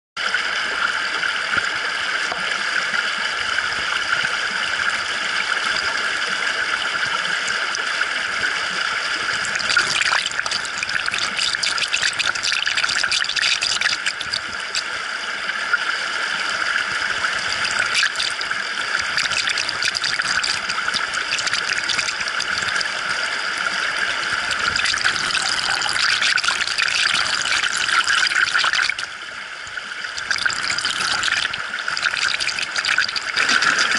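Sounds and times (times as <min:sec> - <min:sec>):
water rushing over rocks underwater: 0:00.2 - 0:33.9.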